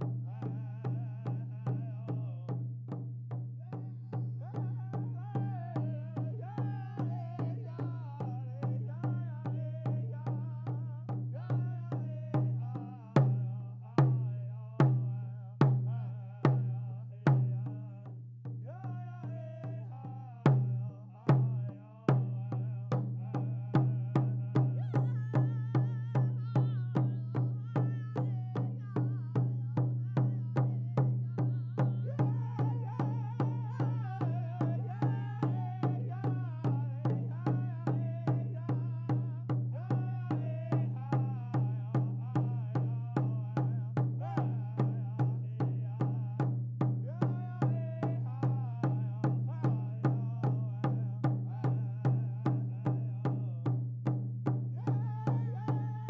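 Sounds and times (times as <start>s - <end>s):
large drum steady beat: 0.0s - 56.0s.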